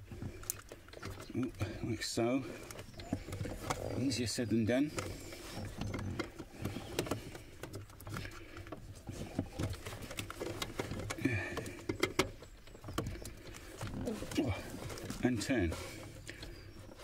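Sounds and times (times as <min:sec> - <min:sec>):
light clicks and knocks: 0:00.0 - 0:17.0.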